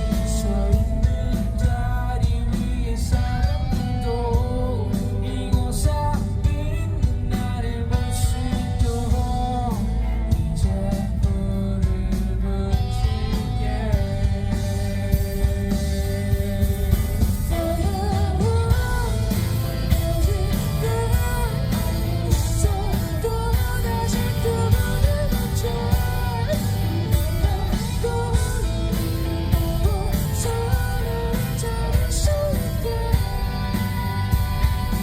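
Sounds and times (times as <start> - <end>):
bass guitar: 0.0 - 35.0
drum kit: 0.0 - 35.0
electric guitar: 0.0 - 35.0
person singing: 0.0 - 35.0.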